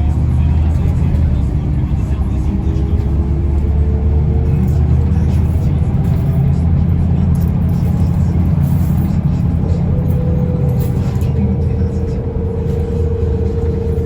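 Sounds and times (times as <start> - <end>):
bus engine drone: 0.0 - 14.0
road rumble: 0.0 - 14.0.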